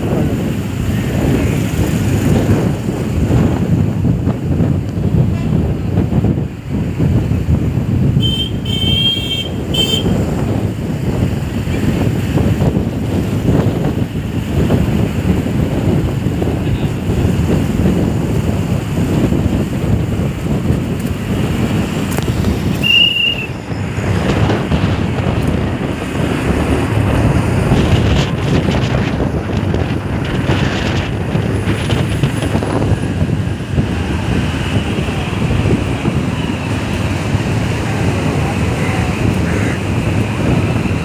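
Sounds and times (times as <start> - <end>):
vehicle road noise: 0.0 - 41.0
wind on microphone: 0.0 - 41.0.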